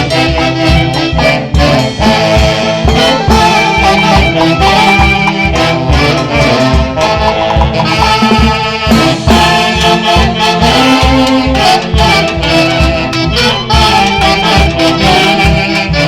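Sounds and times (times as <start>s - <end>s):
horns playing melody: 0.0s - 16.0s.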